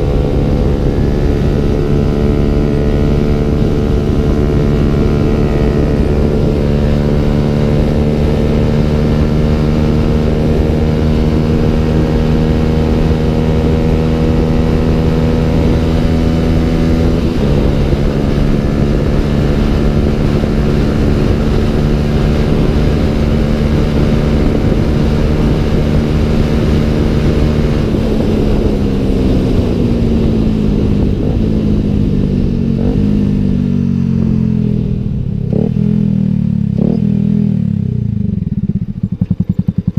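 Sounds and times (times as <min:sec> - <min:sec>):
wind rush: 0:00.0 - 0:35.8
motorcycle engine at high revs: 0:00.0 - 0:39.9.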